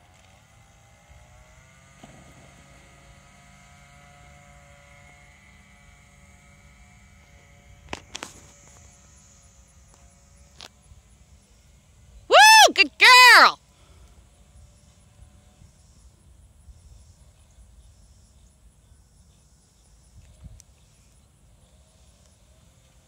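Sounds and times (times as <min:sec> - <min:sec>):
faint mechanical hum: 0:00.0 - 0:12.3, 0:13.6 - 0:23.0.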